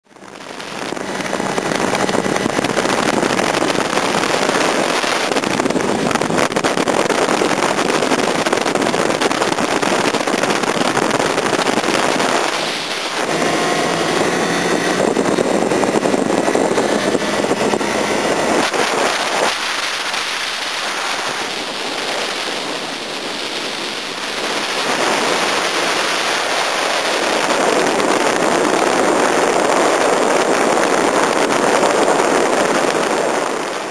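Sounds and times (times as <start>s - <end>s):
motorcycle engine running: 0.0s - 33.9s
wind on microphone: 0.0s - 33.9s.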